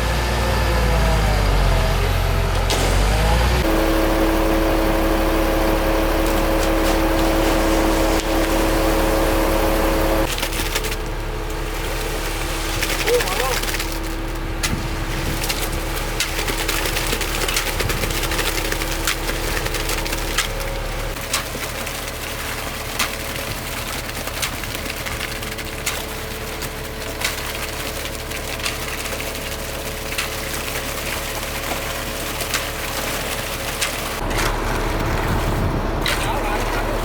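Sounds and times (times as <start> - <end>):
engine humming: 0.0 - 37.0.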